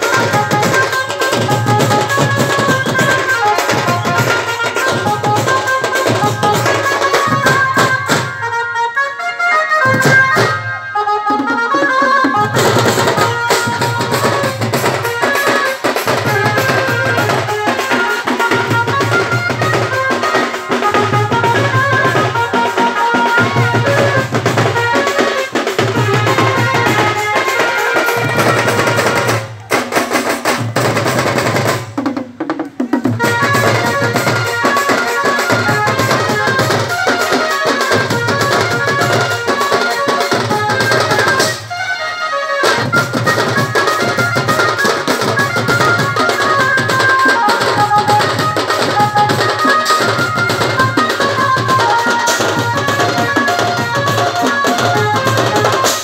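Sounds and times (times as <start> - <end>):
marching tom drums beating: 0.0 - 8.6, 9.8 - 10.7, 11.3 - 41.7, 42.7 - 56.0.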